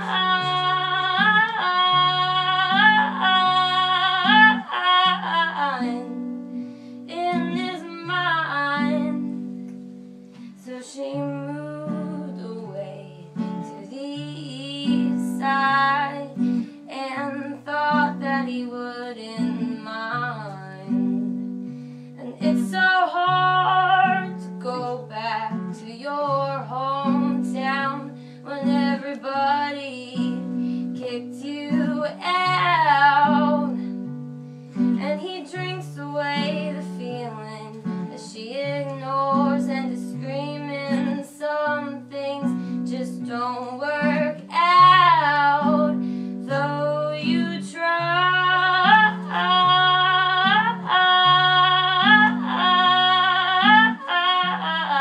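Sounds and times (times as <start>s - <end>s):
guitar accompaniment: 0.0s - 55.0s.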